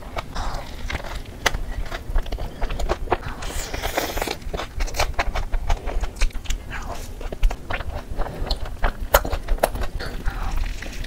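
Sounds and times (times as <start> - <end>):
food crackling clicks: 0.0 - 11.0
person biting and chewing: 0.0 - 11.0.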